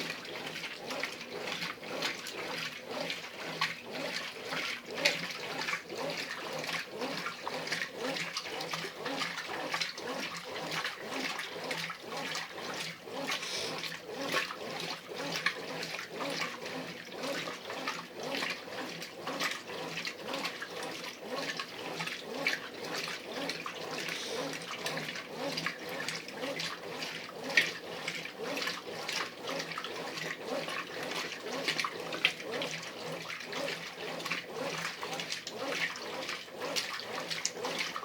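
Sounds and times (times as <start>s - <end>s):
washing machine water sloshing: 0.0s - 38.0s.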